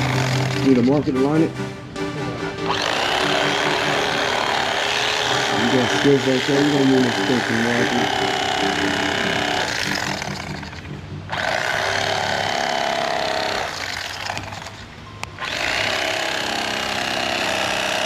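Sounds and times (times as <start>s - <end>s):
power tool cutting foam: 0.0s - 1.0s, 2.6s - 18.0s.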